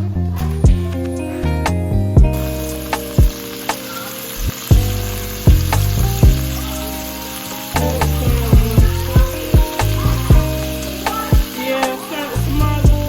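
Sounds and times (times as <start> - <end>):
background music with beat: 0.0 - 13.0
food sizzling in frying pan: 2.4 - 13.0.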